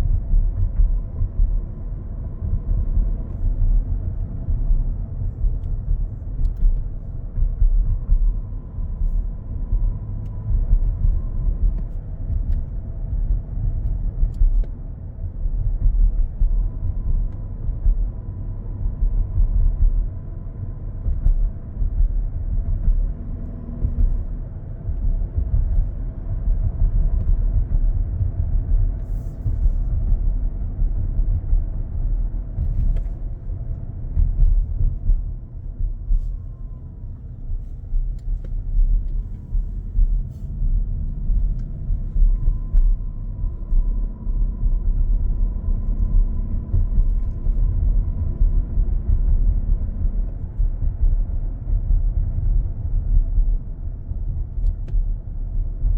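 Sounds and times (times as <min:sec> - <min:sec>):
low road rumble: 0:00.0 - 0:55.9.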